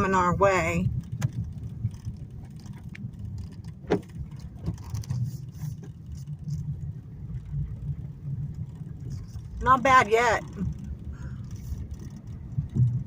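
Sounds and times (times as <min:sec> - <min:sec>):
car driving rumble inside cabin: 0:00.0 - 0:13.0.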